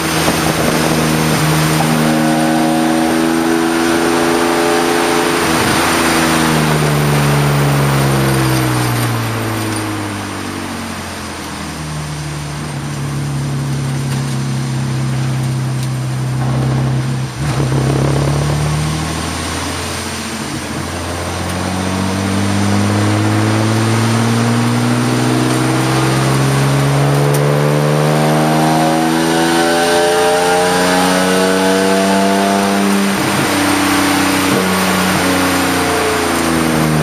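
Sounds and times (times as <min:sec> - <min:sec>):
race car engine accelerating: 0:00.0 - 0:37.0.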